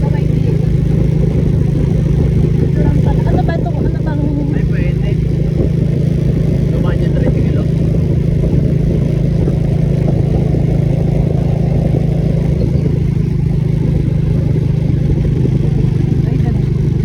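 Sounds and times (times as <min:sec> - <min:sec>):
road rumble: 0:00.0 - 0:17.0
vehicle engine humming: 0:00.0 - 0:17.0.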